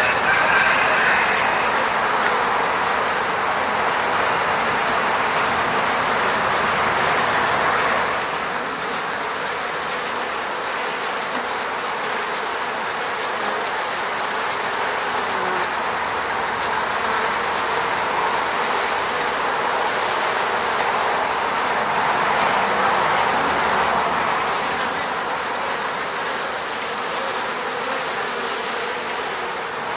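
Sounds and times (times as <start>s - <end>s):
bees buzzing: 0.0s - 12.4s, 13.1s - 29.9s.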